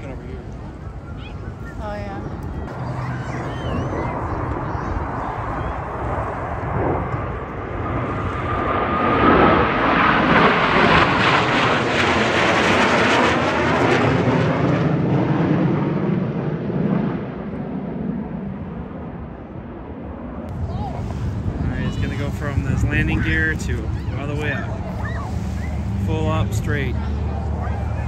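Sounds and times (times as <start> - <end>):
airplane flying past: 0.0 - 28.0.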